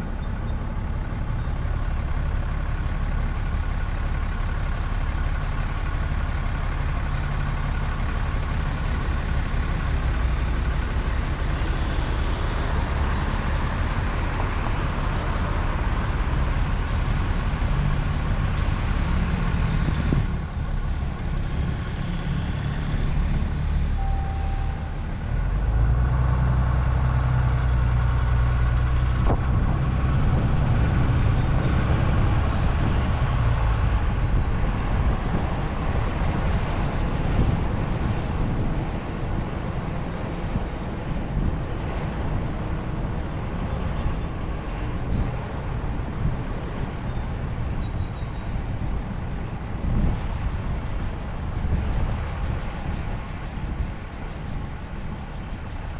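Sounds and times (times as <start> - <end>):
road noise: 0.0 - 55.9
vehicle engine drone: 0.0 - 55.9.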